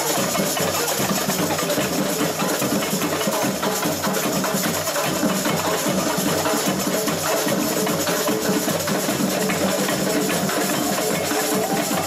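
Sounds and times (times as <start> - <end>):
samba percussion band: 0.0 - 12.0.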